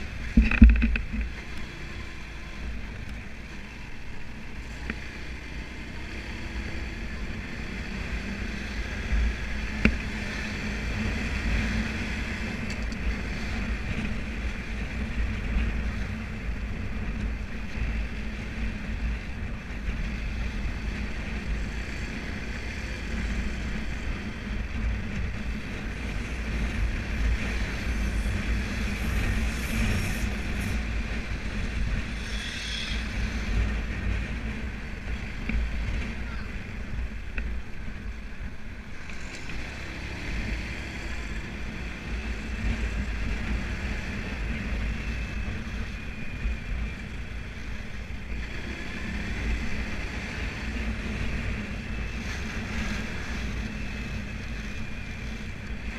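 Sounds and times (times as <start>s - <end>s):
motorbike engine and road rumble: 0.0s - 55.9s
wind rushing over microphone: 0.0s - 55.9s.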